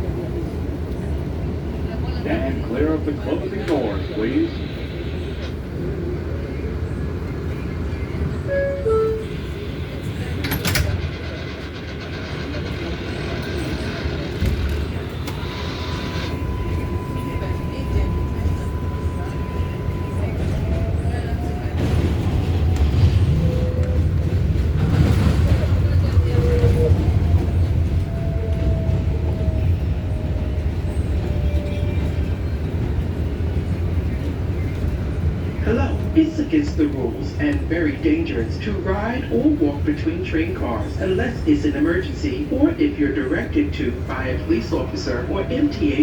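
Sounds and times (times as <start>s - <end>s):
subway wheels rumbling on rail: 0.0s - 46.0s.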